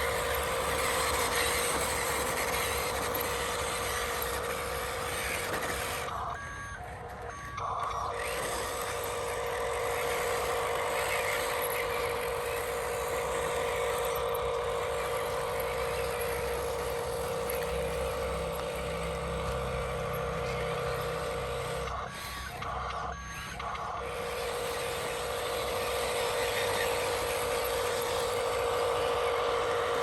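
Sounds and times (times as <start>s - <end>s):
toy truck motor whine: 0.0s - 30.0s.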